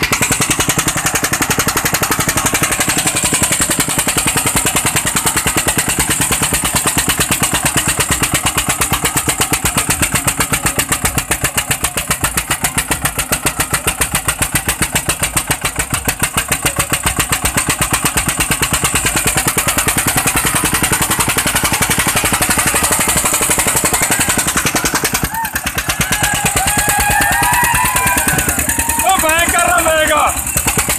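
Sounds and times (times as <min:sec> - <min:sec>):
tractor diesel engine under load: 0:00.0 - 0:30.9.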